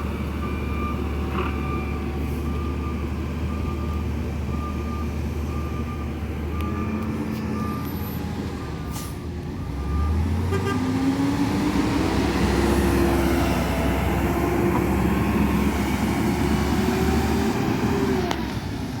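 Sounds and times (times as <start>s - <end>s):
truck reversing beeper: 0.0s - 18.2s
diesel engine revving: 0.0s - 19.0s.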